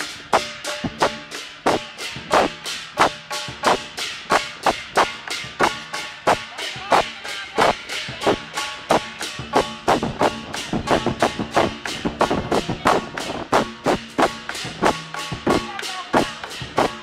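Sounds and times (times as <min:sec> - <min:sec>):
cymbals clashing: 0:00.0 - 0:17.0
drum beating: 0:00.0 - 0:17.0.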